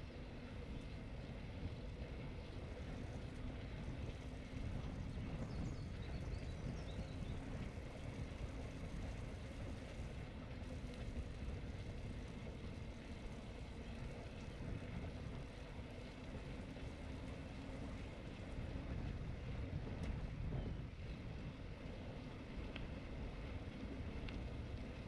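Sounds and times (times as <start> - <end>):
bicycle tyres on asphalt: 0.0 - 25.0
wind buffeting microphone: 0.0 - 25.0.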